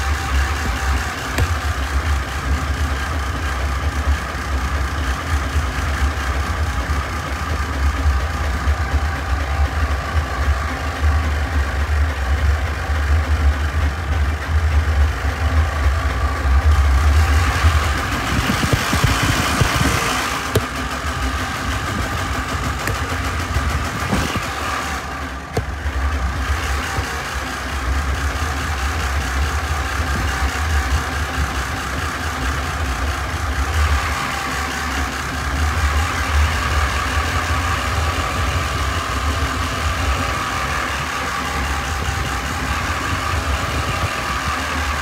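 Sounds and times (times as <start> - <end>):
tractor engine rumbling: 0.0 - 45.0.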